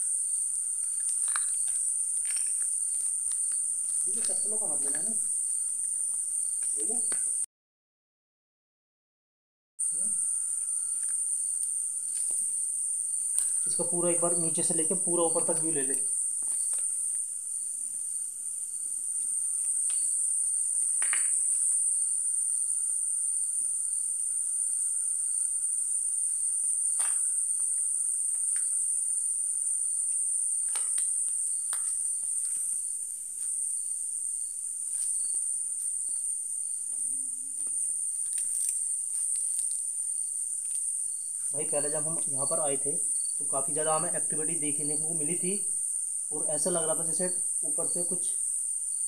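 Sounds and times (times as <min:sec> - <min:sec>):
crickets chirring: 0:00.0 - 0:07.5, 0:09.8 - 0:49.0
low insect drone: 0:00.0 - 0:07.5, 0:09.8 - 0:49.0.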